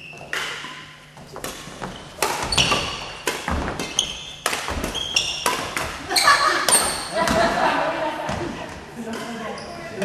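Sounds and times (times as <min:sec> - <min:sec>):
shoes squeaking on floor: 0:00.0 - 0:07.5, 0:09.4 - 0:10.0
racket hits and thuds echoing: 0:00.3 - 0:09.4.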